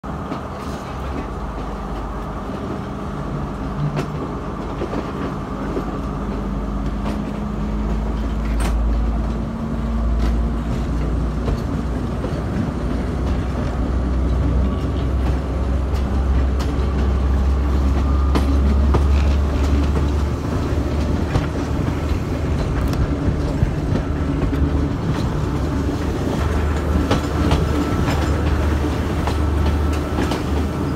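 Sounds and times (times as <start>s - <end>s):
train wheels rumbling on rails: 0.0s - 30.9s
clacks over rail joints: 3.8s - 30.9s.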